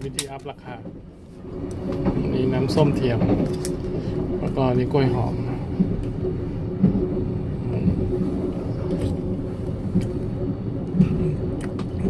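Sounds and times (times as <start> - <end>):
steady hum: 0.0 - 12.0
train rumbling: 0.0 - 12.0.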